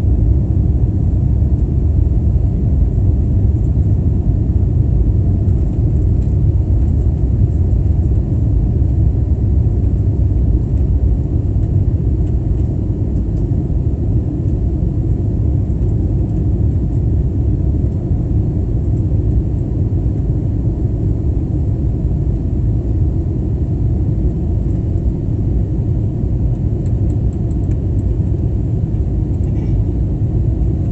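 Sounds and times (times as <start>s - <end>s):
airliner engines rumbling in cabin: 0.0s - 30.9s.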